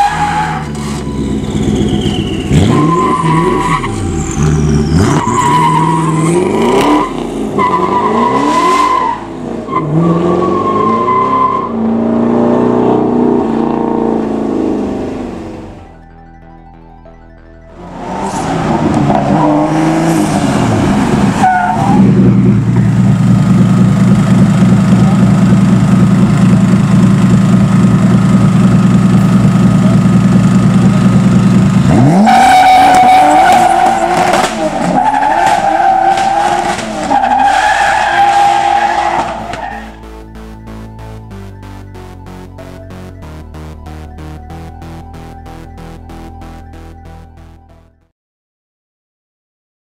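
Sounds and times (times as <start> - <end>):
race car engine revving: 0.1 - 15.8, 17.8 - 47.7.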